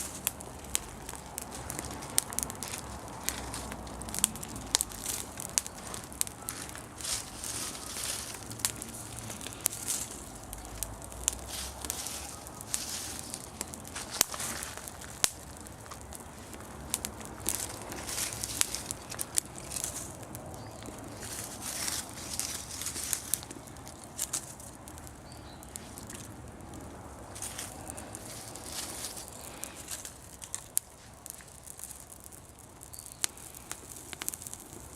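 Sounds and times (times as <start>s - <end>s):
leaf fire crackling: 0.0s - 34.9s.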